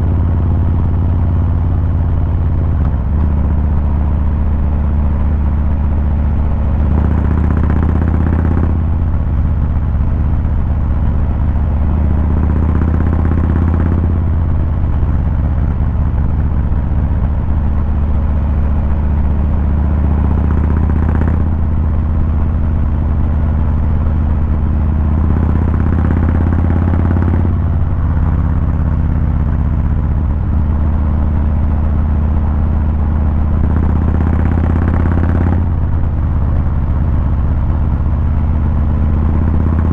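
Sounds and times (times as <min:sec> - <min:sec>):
motorcycle exhaust rumble: 0:00.0 - 0:39.9.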